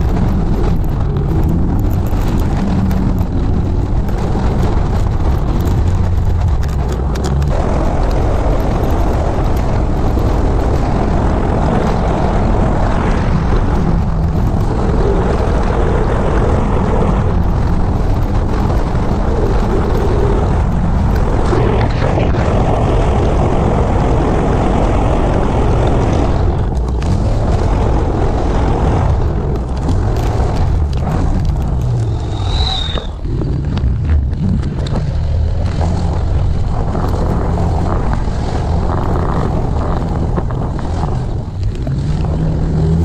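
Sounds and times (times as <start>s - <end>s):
motor scooter running: 0.0s - 43.0s
wind rush over camera: 0.0s - 43.0s.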